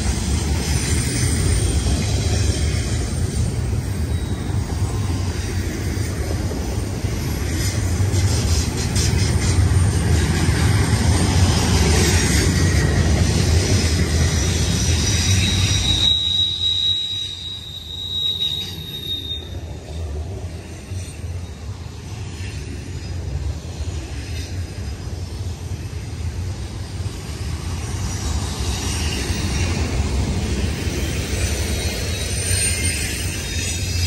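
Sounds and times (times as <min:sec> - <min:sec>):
train wheel squeal: 0:00.0 - 0:34.0
train wheels rumbling on rails: 0:00.0 - 0:34.0.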